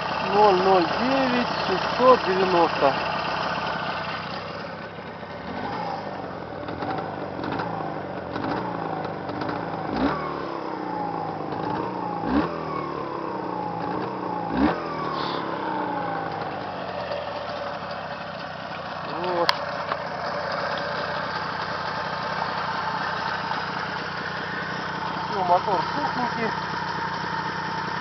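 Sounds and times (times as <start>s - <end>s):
engine revving: 0.0s - 18.0s, 19.0s - 28.0s.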